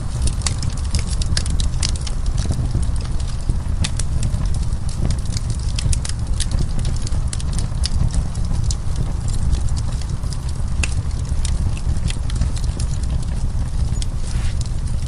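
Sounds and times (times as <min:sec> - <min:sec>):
burning wood crackling and popping: 0:00.0 - 0:15.0
low rumble of fire: 0:00.0 - 0:15.0.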